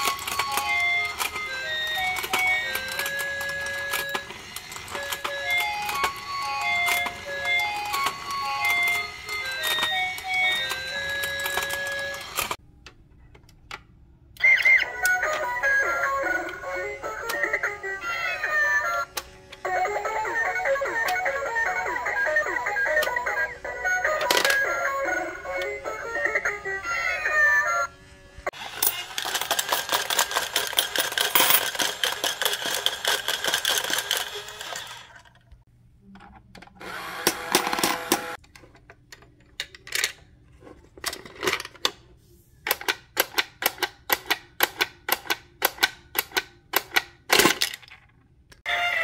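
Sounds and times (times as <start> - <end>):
plastic mechanism clicking and whirring: 0.0 - 27.4, 28.5 - 42.0, 42.6 - 48.7.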